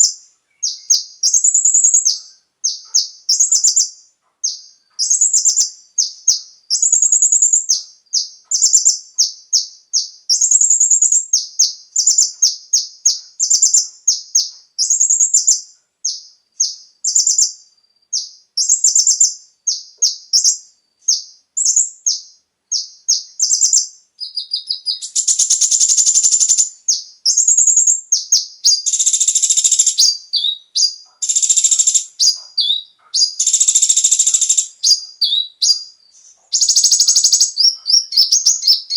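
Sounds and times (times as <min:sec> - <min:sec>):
small bird singing: 0:00.0 - 0:38.9.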